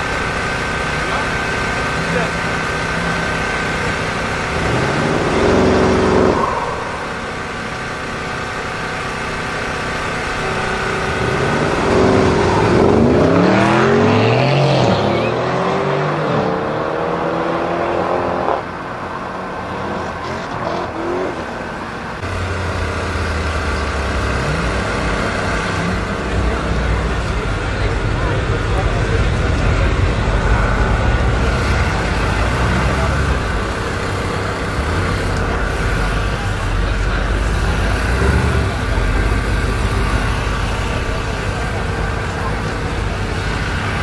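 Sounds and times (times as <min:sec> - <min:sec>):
engine idling: 0:00.0 - 0:13.8, 0:21.5 - 0:44.0
car engines revving and accelerating: 0:00.0 - 0:44.0.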